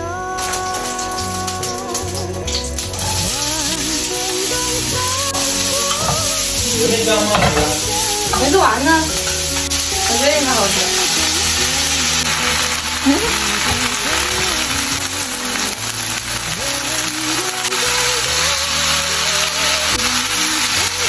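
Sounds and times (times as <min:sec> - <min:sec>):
onions sizzling in hot oil: 0:02.5 - 0:21.0.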